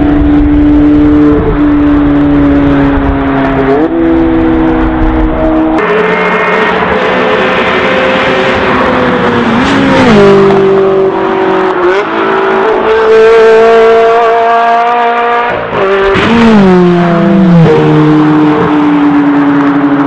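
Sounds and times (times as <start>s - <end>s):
race car engine passing at speed: 0.0s - 20.0s.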